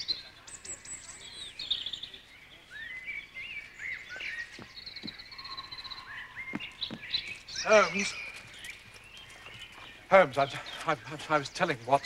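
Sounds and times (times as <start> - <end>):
birds whistling and trilling: 0.0 - 12.0.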